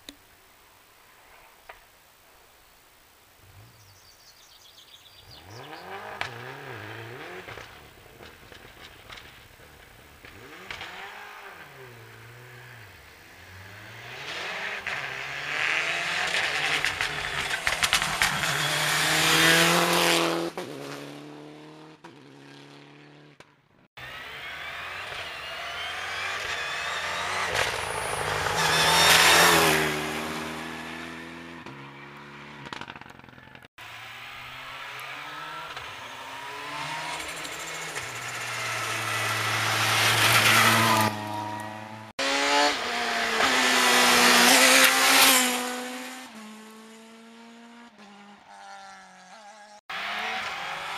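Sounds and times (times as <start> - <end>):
rally cars passing at speed: 5.2 - 50.9.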